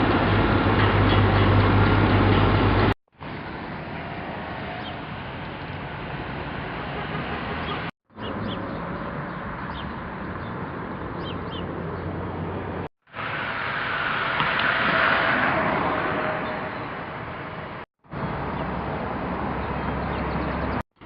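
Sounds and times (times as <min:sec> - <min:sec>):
traffic hum: 0:00.0 - 0:21.0
vehicle passing: 0:00.4 - 0:20.8.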